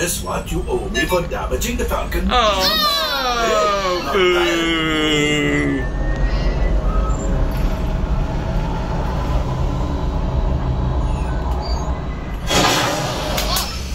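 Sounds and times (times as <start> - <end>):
low engine rumble: 0.0 - 12.5.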